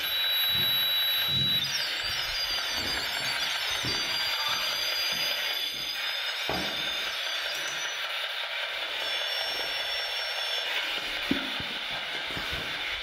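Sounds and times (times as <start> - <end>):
high electronic whine: 0.0 - 13.0.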